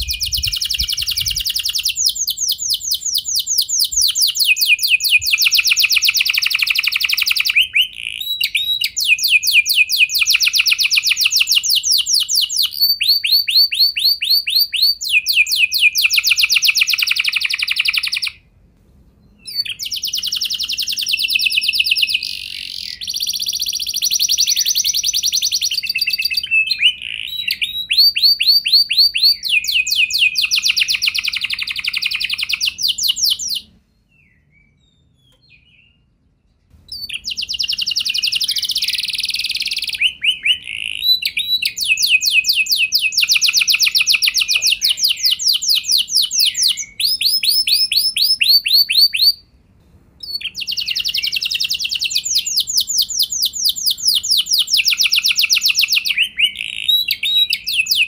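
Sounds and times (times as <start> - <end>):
canary singing trills: 0.0 - 18.4, 19.2 - 36.1, 36.9 - 49.5, 50.2 - 58.0.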